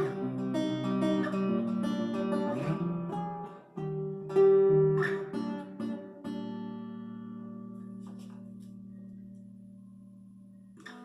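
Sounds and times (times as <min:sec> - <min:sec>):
acoustic guitar picked chords: 0:00.0 - 0:11.0.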